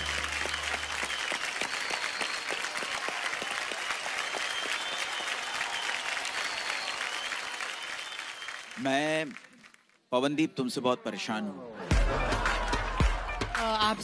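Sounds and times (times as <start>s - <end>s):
audience applauding: 0.0s - 10.0s, 11.9s - 13.8s.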